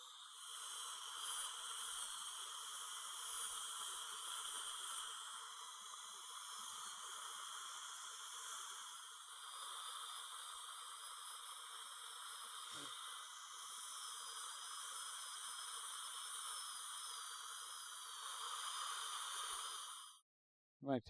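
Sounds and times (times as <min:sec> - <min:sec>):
dental drill whine: 0:00.0 - 0:20.2.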